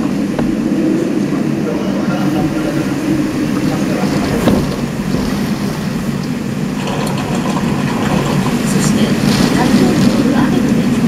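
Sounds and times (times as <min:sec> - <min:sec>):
heavy rain: 0:00.0 - 0:11.0
strong wind: 0:00.0 - 0:11.0.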